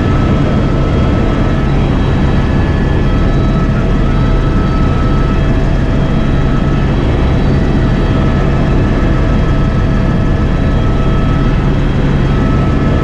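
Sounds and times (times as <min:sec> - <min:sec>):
helicopter rotor and engine noise: 0:00.0 - 0:13.0.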